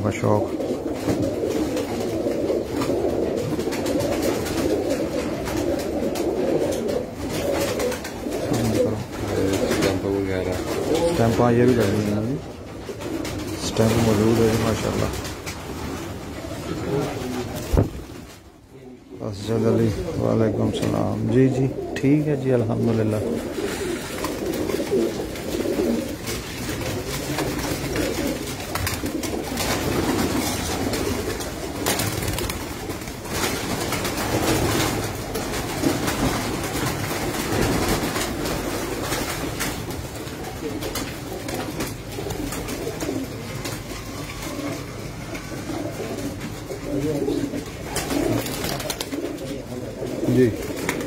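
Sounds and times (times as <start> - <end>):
pigeons cooing: 0.0 - 51.0.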